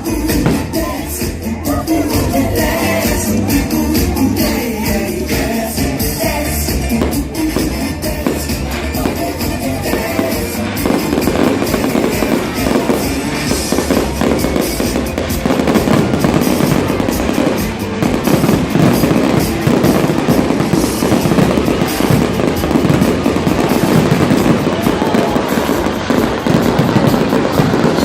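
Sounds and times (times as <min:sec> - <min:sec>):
fireworks bangs and pops: 0:00.0 - 0:01.5, 0:02.1 - 0:28.0
music over loudspeakers: 0:00.0 - 0:28.0.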